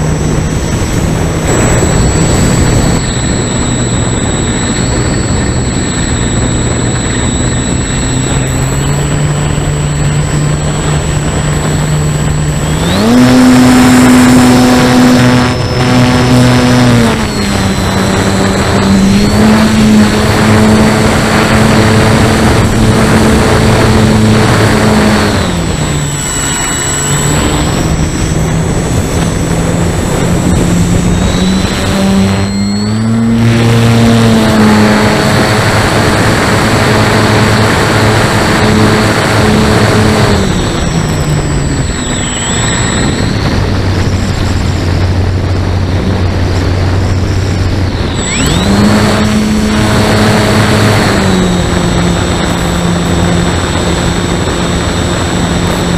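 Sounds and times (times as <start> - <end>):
electric motor and propeller: 0.0 - 55.9
wind rushing over microphone: 0.0 - 55.9.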